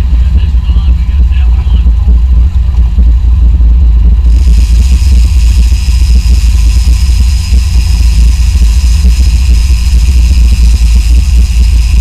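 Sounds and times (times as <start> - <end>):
boat engines rumbling: 0.0 - 12.0
faint high whine: 0.0 - 12.0.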